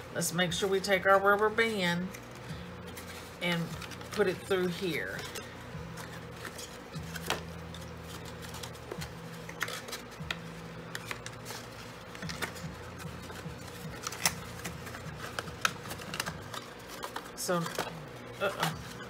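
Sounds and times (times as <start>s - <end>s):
soft background music: 0.0s - 19.0s
cardstock rustling: 2.9s - 19.0s.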